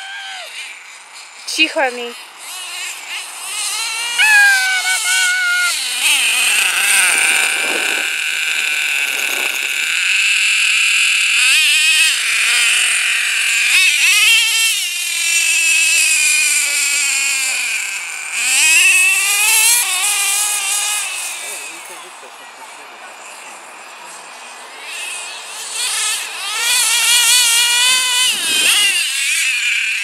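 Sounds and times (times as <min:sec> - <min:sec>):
rc truck engine revving: 0:00.0 - 0:30.0.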